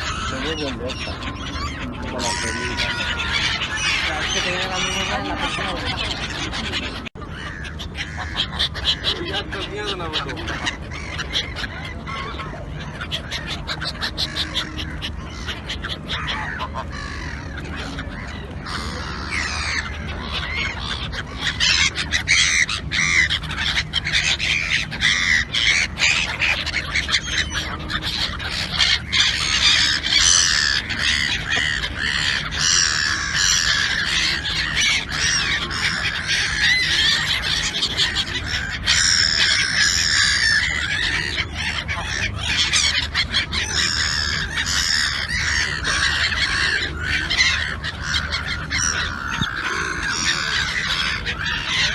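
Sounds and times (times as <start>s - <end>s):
flock of birds calling: 0.0s - 51.9s.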